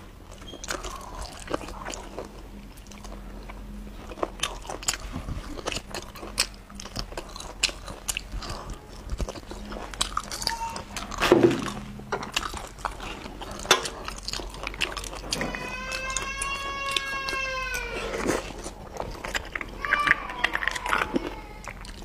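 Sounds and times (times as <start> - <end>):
chewing with mouth clicks: 0.0 - 22.0.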